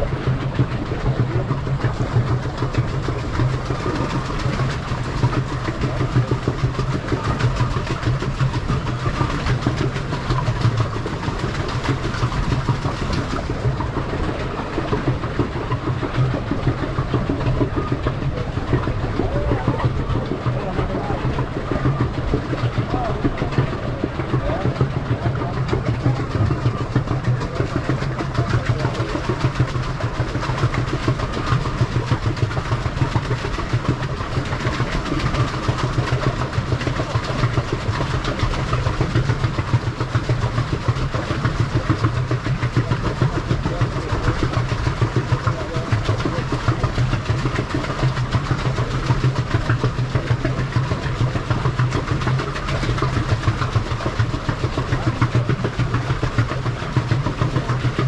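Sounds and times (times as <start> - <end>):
paddle wheel splashing water: 0.0 - 58.0.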